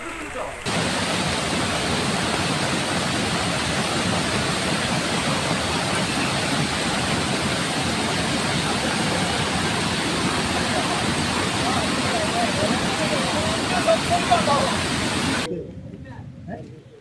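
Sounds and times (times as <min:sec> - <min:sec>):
floodwater rushing across road: 0:00.0 - 0:15.5.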